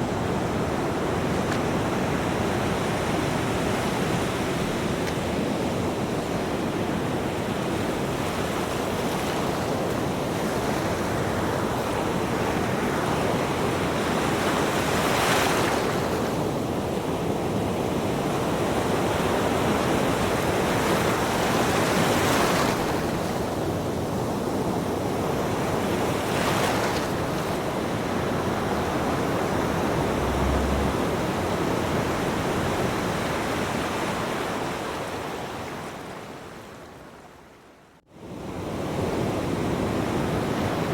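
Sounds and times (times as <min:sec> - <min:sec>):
ocean waves breaking: 0:00.0 - 0:36.5.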